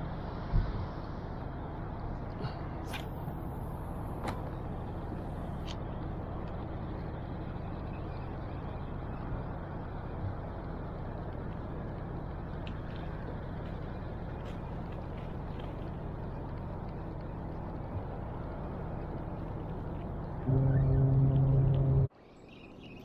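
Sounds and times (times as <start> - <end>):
low rumbling background noise: 0.0 - 23.0.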